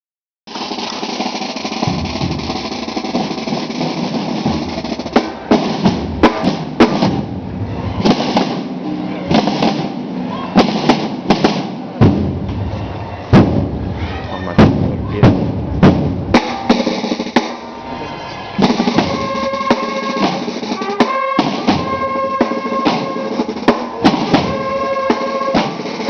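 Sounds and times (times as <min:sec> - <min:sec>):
snare drum roll: 0:00.5 - 0:07.4, 0:08.0 - 0:10.0, 0:10.6 - 0:12.4, 0:14.6 - 0:17.8, 0:18.6 - 0:26.0
loud sharp drum strikes: 0:00.5 - 0:12.7, 0:13.3 - 0:14.0, 0:14.6 - 0:17.7, 0:18.6 - 0:26.0.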